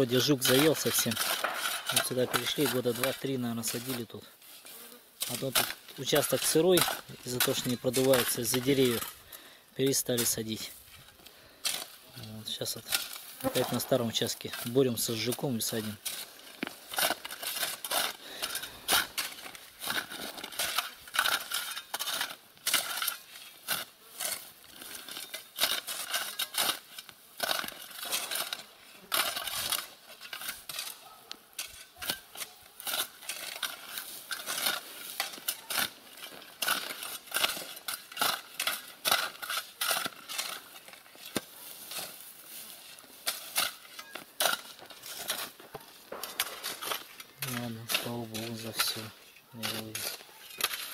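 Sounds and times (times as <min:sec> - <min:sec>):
hand tools crunching gravelly soil: 0:00.0 - 0:50.9.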